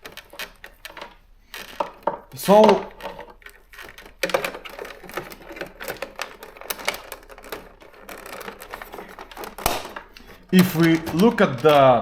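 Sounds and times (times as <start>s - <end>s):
electronic typewriter typing: 0.0s - 12.0s.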